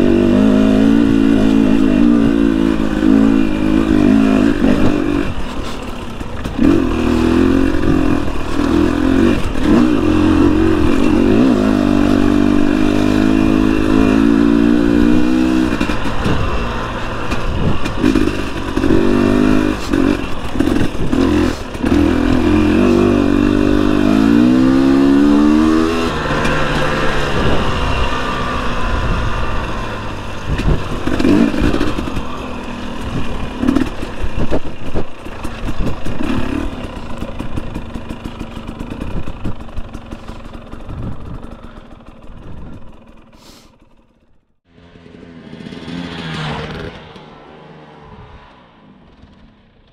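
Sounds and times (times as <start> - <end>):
engine knocks and clatter: 0.0 - 47.3, 49.0 - 49.9
dirt bike engine revving: 0.0 - 49.9.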